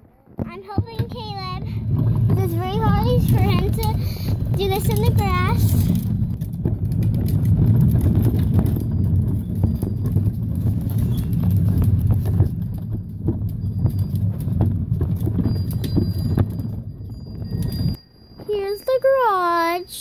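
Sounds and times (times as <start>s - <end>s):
plastic wheels rolling on concrete: 0.0s - 19.2s.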